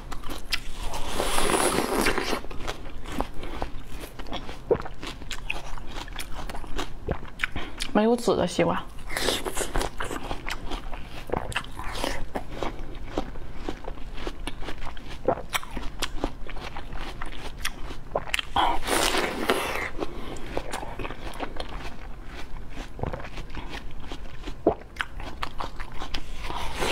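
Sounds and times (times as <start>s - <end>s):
biting and chewing watermelon: 0.0s - 8.0s, 9.0s - 26.9s.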